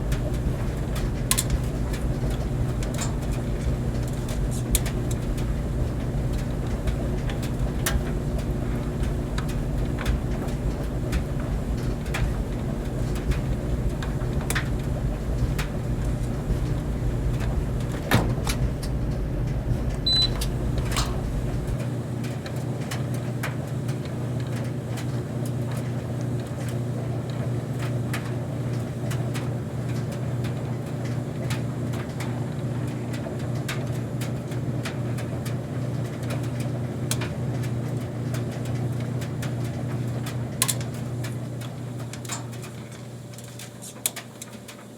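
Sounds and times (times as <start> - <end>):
clothes dryer motor hum: 0.0 - 44.9
load tumbling in dryer drum: 0.0 - 44.9.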